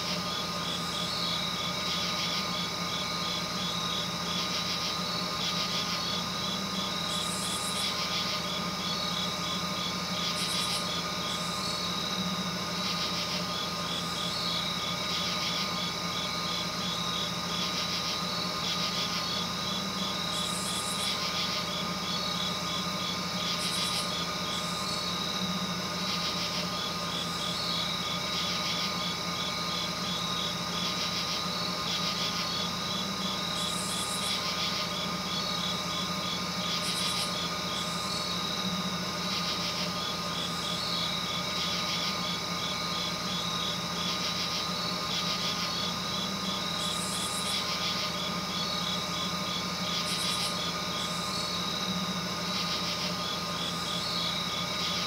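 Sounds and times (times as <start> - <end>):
droning hum and hiss: 0.0 - 55.0
rapid chirp-like pulsing: 0.0 - 55.0.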